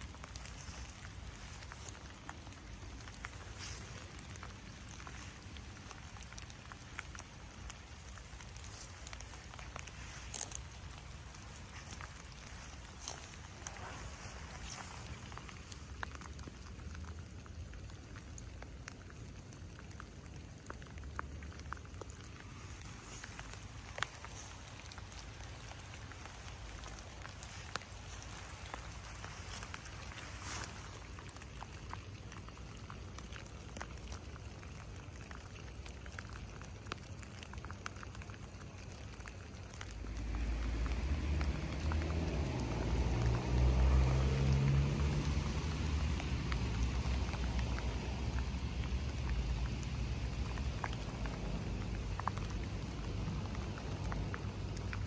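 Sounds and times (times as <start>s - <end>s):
light rain on grass and leaves: 0.0s - 55.0s
low rumble with faint hum: 0.0s - 55.0s.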